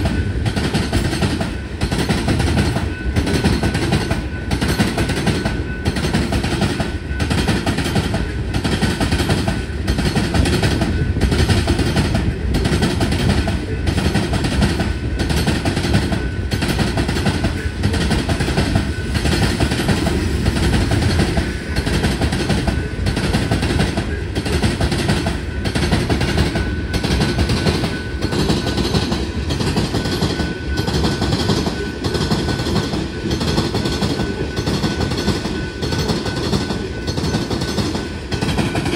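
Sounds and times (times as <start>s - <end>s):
train wheels rumbling on rail: 0.0s - 38.9s
wheels clacking on rail joints: 0.0s - 38.9s.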